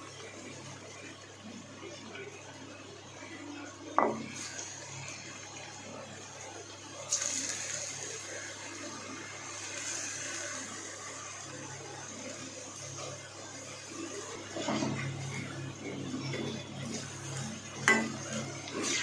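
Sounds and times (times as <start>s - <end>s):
potatoes deep-frying in oil: 0.0s - 19.0s.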